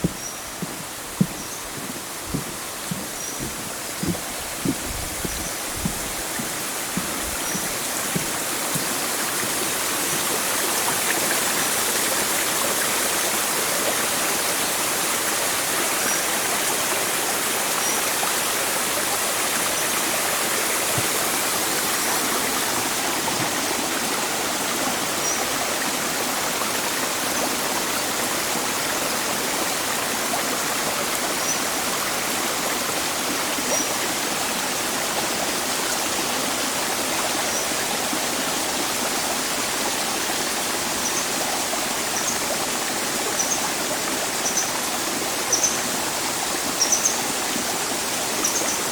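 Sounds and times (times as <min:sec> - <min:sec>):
stream water flowing: 0:00.0 - 0:48.9.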